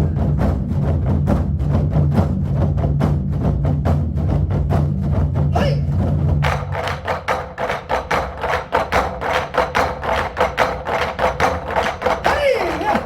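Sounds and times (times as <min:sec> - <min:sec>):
rolling drum rumble: 0:00.0 - 0:12.3
drum ensemble playing: 0:00.0 - 0:13.0
fast sharp drum strikes: 0:00.0 - 0:13.0.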